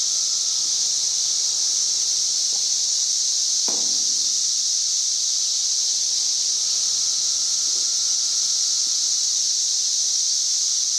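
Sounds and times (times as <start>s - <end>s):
cicada chorus buzzing: 0.0s - 10.9s.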